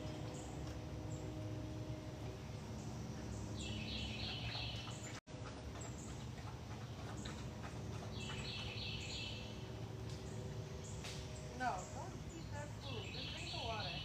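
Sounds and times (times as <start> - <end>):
outdoor background noise: 0.0 - 14.0
bird chirping: 2.5 - 14.0.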